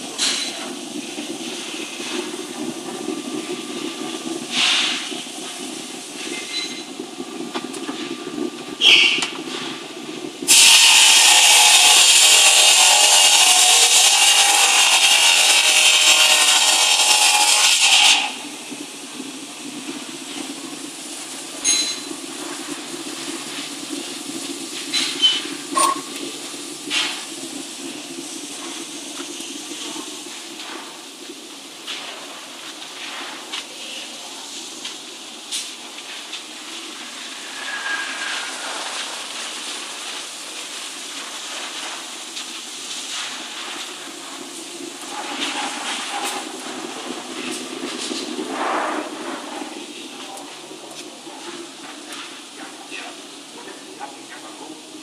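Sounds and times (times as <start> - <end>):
loud rasping hiss: 10.4 - 55.0.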